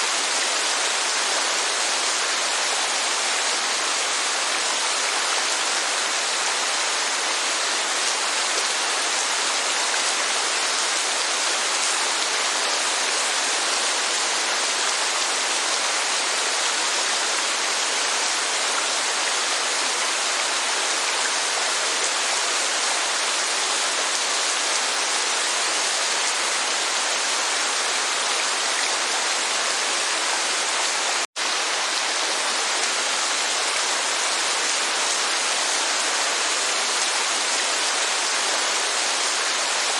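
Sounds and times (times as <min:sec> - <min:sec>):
heavy rainfall hiss: 0:00.0 - 0:39.9.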